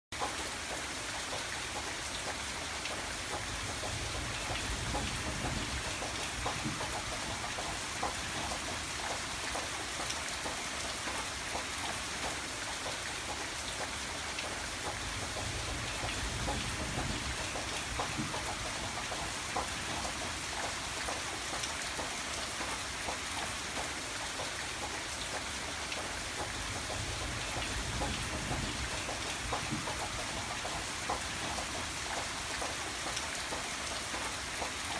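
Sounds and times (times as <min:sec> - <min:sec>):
rain falling: 0:00.1 - 0:34.9
sharp drip-like ticks: 0:00.2 - 0:34.9.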